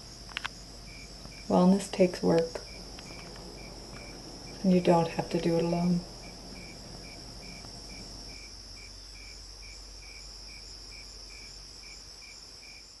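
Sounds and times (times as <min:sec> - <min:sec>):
crickets trilling: 0:00.0 - 0:13.0
lower insect chirping: 0:00.0 - 0:13.0.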